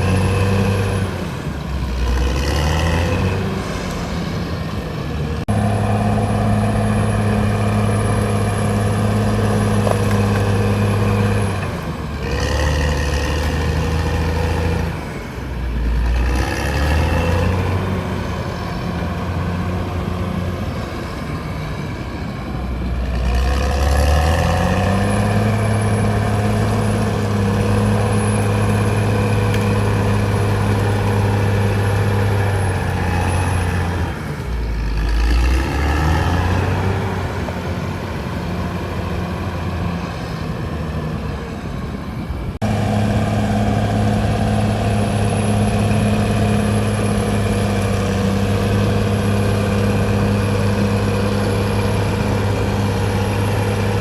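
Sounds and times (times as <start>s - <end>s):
bulldozer diesel engine revving: 0.0s - 54.0s.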